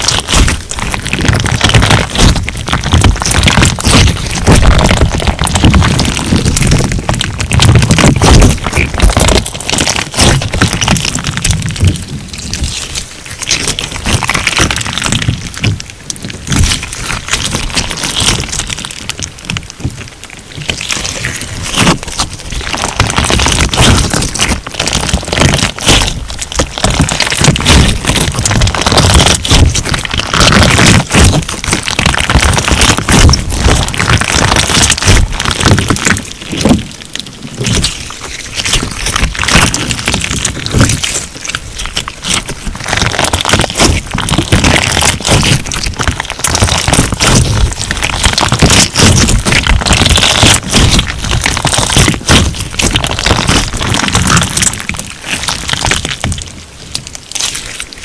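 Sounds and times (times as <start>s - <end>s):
slime crackling as kneaded: 0.0s - 58.0s.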